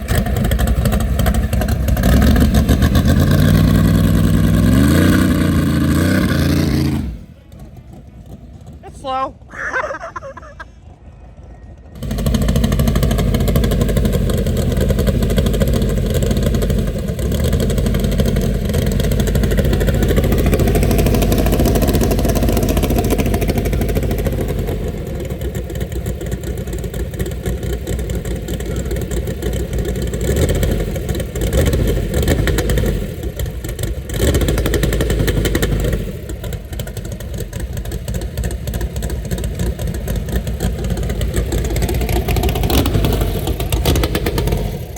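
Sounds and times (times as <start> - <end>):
drag car engine revving loudly: 0.0 - 7.7, 12.0 - 44.9.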